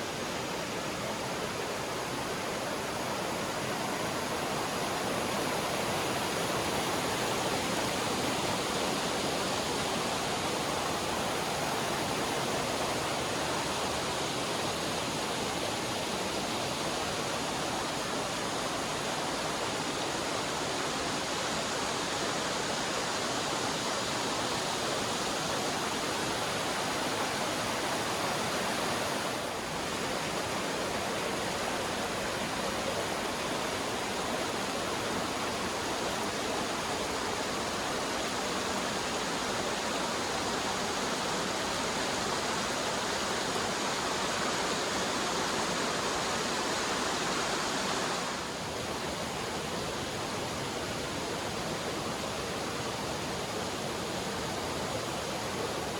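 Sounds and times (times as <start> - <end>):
river water rushing over rocks: 0.0 - 55.9.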